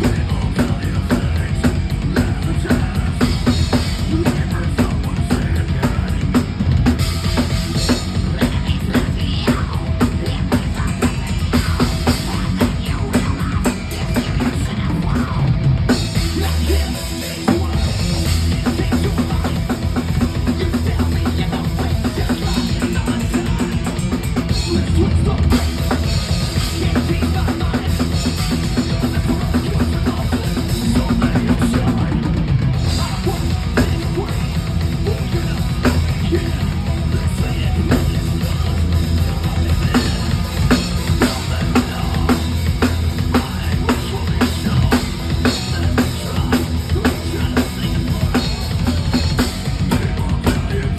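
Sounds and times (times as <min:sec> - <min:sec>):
fast drum-kit strokes: 0:00.0 - 0:50.9
heavy bass drum: 0:00.0 - 0:50.9
thrash metal band playing live: 0:00.0 - 0:50.9.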